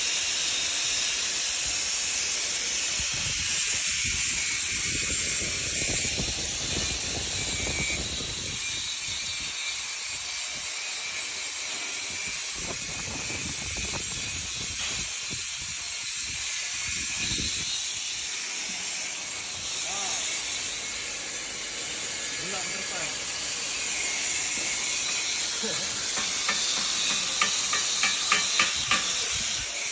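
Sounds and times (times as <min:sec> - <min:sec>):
arc welding hiss: 0:00.0 - 0:29.9.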